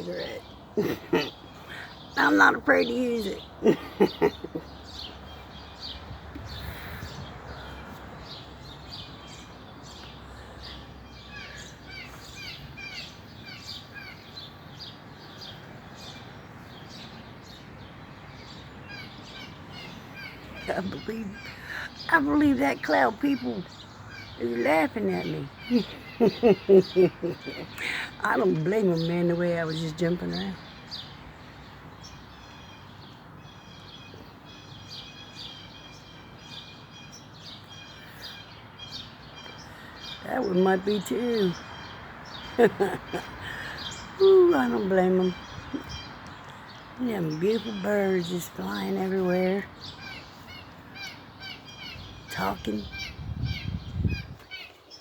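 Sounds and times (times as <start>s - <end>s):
birds chirping: 0.0s - 55.0s
outdoor background noise: 0.0s - 55.0s.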